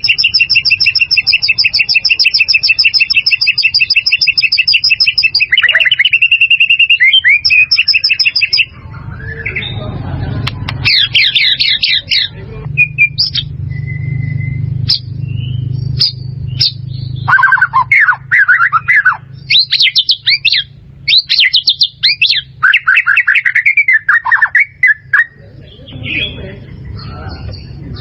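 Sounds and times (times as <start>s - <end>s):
bird whistled song: 0.0s - 28.0s.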